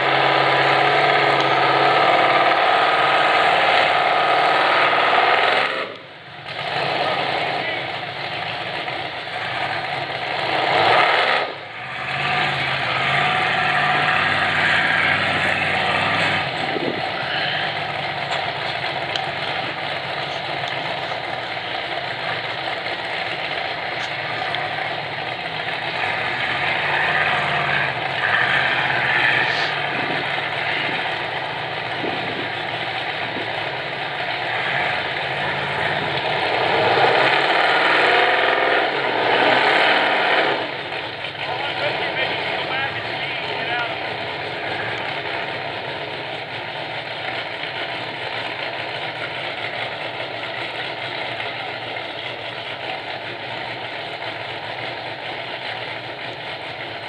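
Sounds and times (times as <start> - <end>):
off-road buggy engines idling: 0.0 - 57.0.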